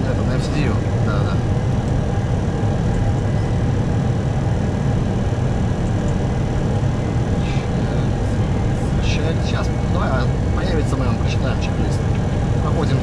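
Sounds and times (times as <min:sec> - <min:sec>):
aircraft engine noise: 0:00.0 - 0:13.0
airflow rushing: 0:00.0 - 0:13.0.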